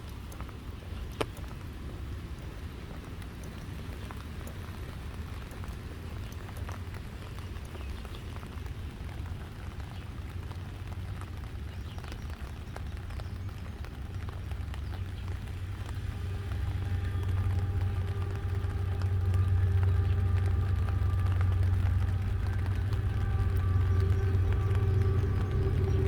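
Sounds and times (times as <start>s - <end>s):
low rumble: 0.0s - 26.0s
rain falling: 0.0s - 26.0s
raindrops ticking on surfaces: 0.0s - 26.0s.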